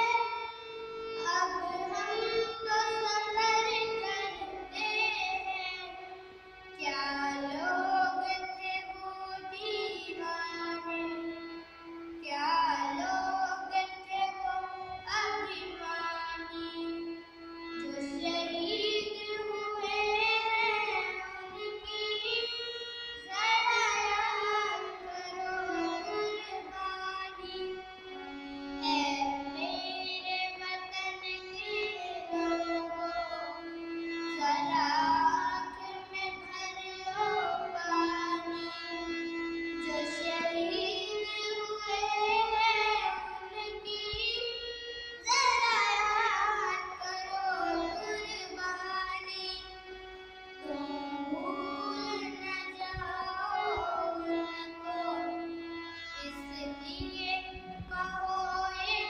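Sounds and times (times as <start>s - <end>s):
girl singing: 0.0s - 6.0s, 6.8s - 11.4s, 12.2s - 27.8s, 28.6s - 49.7s, 50.6s - 59.0s
harmonium held notes: 0.0s - 59.0s.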